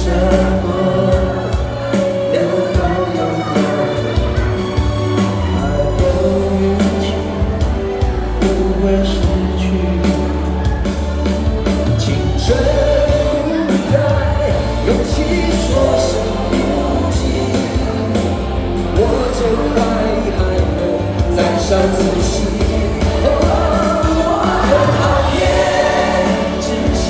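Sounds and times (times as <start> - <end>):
live pop-rock ballad: 0.0 - 27.0
person singing: 0.0 - 27.0.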